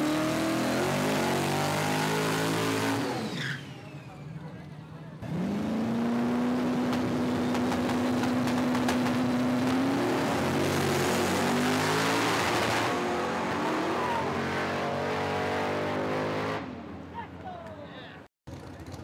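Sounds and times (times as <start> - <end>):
drag racing engine revving: 0.0 - 3.8, 5.2 - 16.8.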